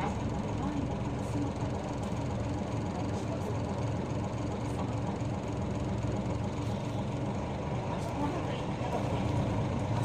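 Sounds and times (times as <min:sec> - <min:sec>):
bus engine drone: 0:00.0 - 0:10.0
road noise: 0:00.0 - 0:10.0.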